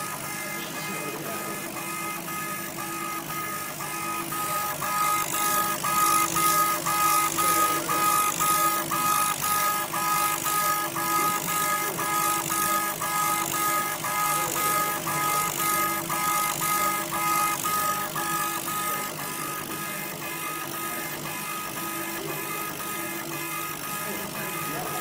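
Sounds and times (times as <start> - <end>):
stepper motors whining: 0.0 - 25.0.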